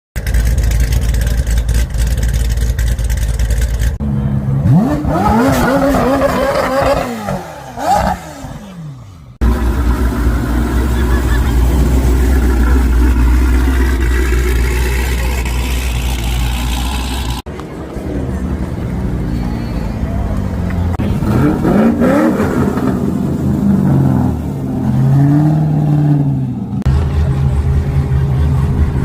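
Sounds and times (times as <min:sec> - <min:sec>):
car engine revving: 0:00.2 - 0:17.5, 0:20.0 - 0:29.0.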